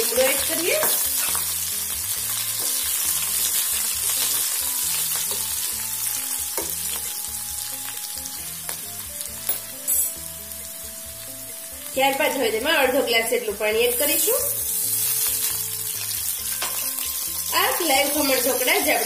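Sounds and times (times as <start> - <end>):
chillies sizzling in hot oil: 0.0 - 19.0.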